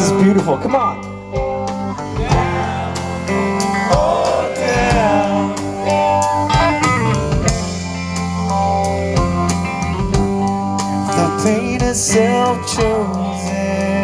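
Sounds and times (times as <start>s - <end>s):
bass guitar: 0.0s - 14.0s
drum kit: 0.0s - 14.0s
electric guitars: 0.0s - 14.0s.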